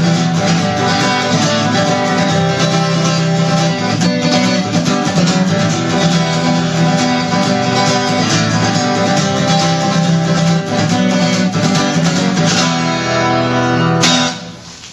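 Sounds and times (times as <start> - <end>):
guitar strumming: 0.0 - 14.9.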